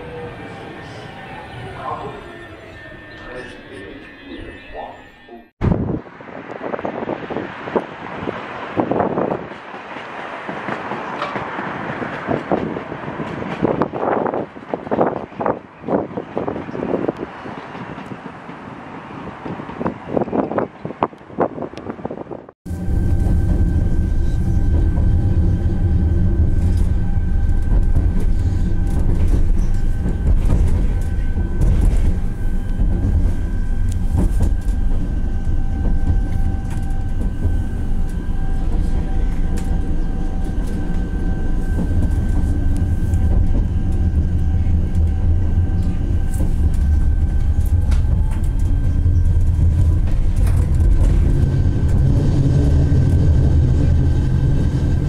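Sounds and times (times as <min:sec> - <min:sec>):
tram wheels rumbling on rail: 0:00.0 - 0:55.0.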